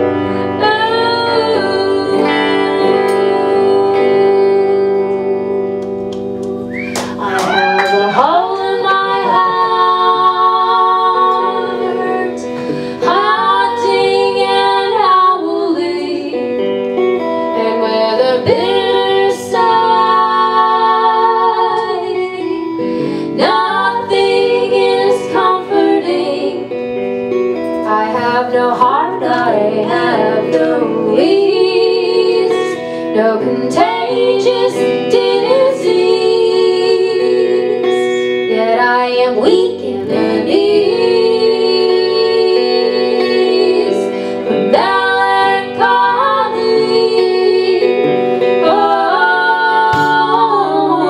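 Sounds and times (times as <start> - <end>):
woman singing with vibrato: 0.0 - 6.0, 7.0 - 16.8, 17.4 - 26.8, 27.8 - 51.0
electric guitar: 0.0 - 51.0.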